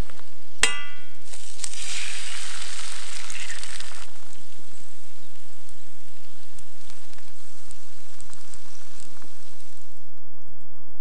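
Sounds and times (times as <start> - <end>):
eggs sizzling in a pan: 0.0 - 10.2.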